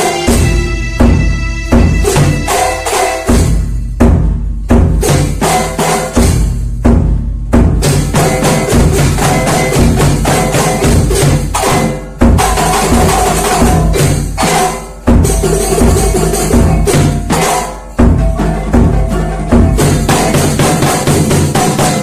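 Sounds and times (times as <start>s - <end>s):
frame drums and jingling percussion: 0.0s - 7.0s, 7.6s - 22.0s.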